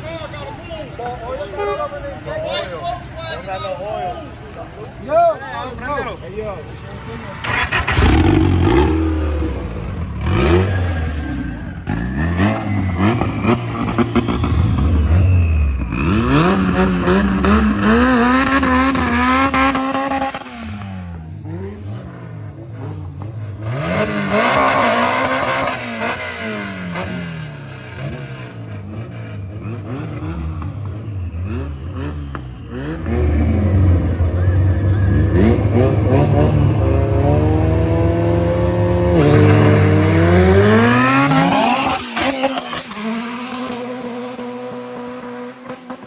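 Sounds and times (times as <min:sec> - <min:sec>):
car engines accelerating hard: 0:00.0 - 0:46.0.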